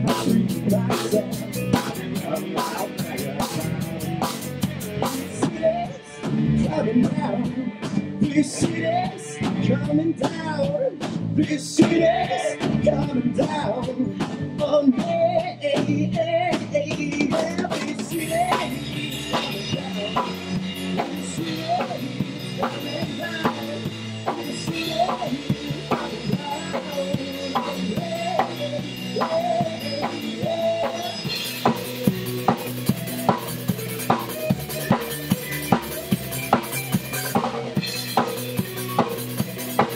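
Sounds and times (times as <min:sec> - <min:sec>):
drum kit steady beat: 0:00.0 - 0:39.9
electric guitars: 0:00.0 - 0:39.9.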